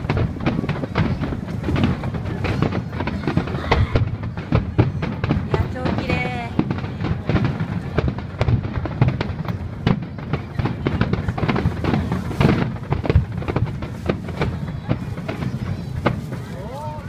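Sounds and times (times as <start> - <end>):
firework shells bursting: 0.0 - 16.6
firework crackling: 0.0 - 17.0.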